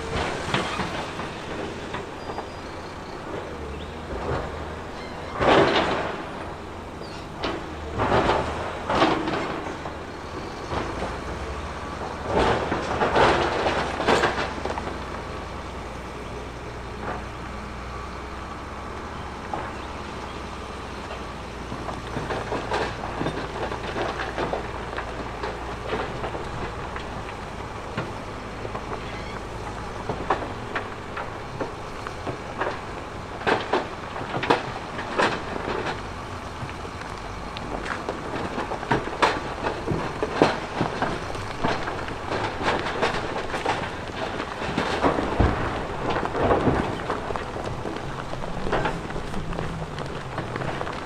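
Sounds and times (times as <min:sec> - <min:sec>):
rock scraping and crashing: 0:00.0 - 0:16.6, 0:21.0 - 0:51.0
clatter and knocks: 0:00.0 - 0:17.5, 0:19.3 - 0:51.0
diesel engine droning: 0:00.0 - 0:51.0.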